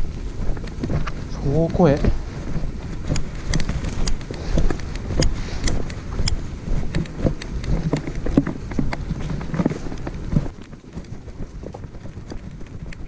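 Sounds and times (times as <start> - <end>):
rustling through grass: 0.0 - 10.8
hurried footsteps on dirt path: 0.0 - 13.0
sharp clicks and knocks: 0.0 - 13.0
wind rumble: 0.0 - 13.0.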